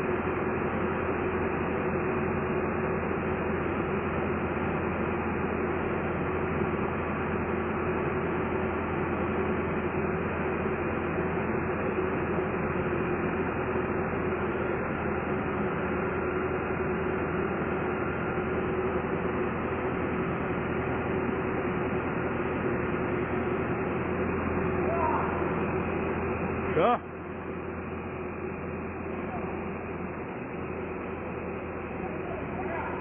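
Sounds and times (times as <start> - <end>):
drill rig machinery drone: 0.0 - 33.0.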